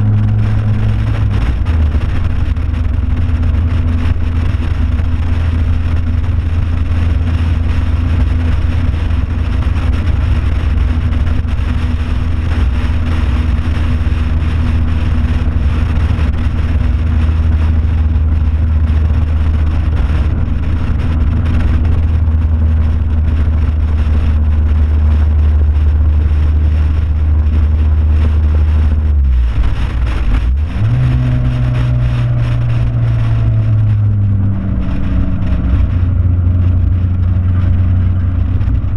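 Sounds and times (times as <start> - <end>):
race car engine pulling hard: 0.0 - 38.9
wind rushing: 0.0 - 38.9.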